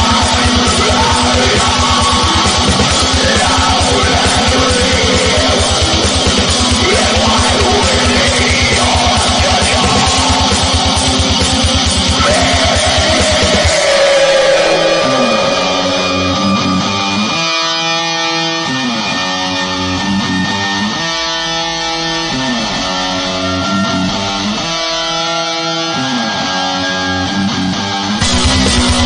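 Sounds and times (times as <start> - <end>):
slow guitar chords with slides: 0.0 - 29.0.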